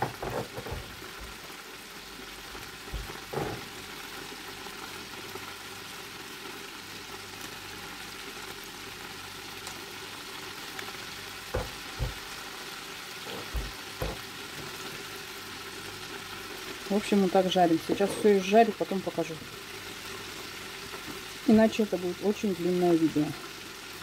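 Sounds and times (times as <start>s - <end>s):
oil sizzling in deep fryer: 0.0s - 24.0s.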